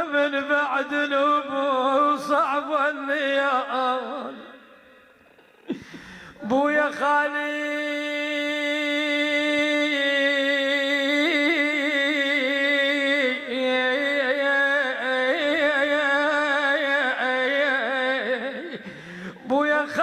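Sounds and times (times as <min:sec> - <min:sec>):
man singing a lament: 0:00.0 - 0:05.0, 0:05.8 - 0:20.0.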